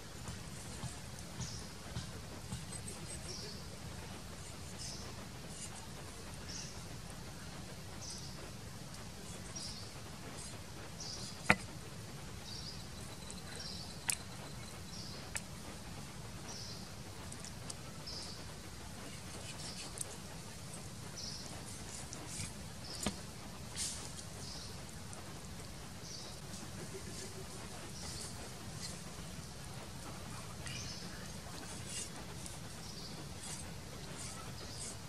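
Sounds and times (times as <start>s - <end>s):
low background noise: 0.0s - 35.0s.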